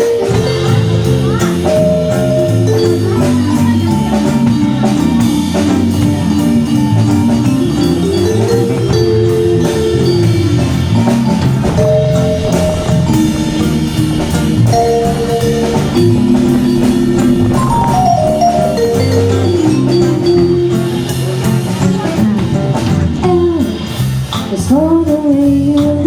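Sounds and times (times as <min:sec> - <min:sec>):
live band playing jazz-pop: 0:00.0 - 0:26.0
steady drum beat: 0:00.0 - 0:26.0.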